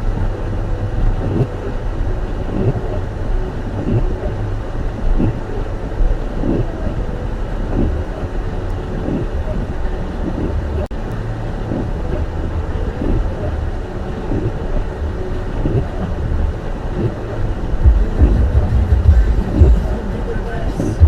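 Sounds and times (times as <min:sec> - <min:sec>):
car tyres and engine rumble: 0:00.0 - 0:21.0.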